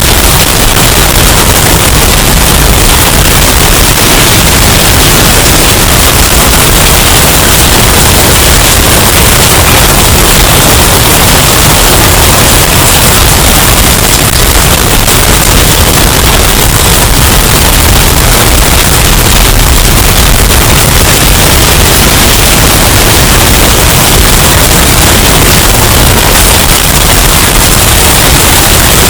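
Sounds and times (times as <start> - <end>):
distorted hurricane wind: 0.0 - 29.0.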